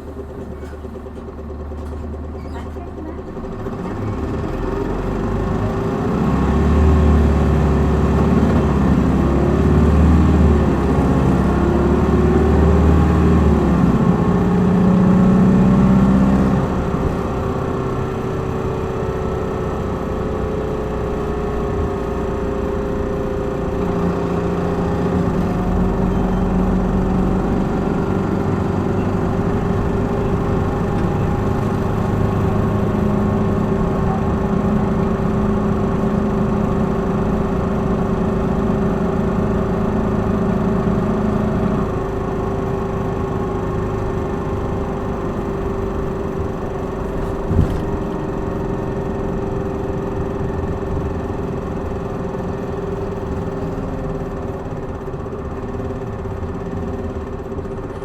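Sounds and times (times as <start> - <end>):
bus diesel engine pulling hard: 0.0 - 58.0.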